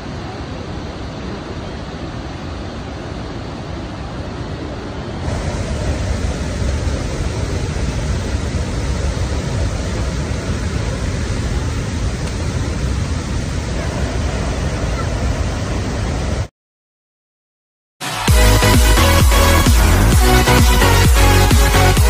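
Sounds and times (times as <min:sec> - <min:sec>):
waterfall rushing: 0:00.0 - 0:16.5, 0:18.0 - 0:22.0.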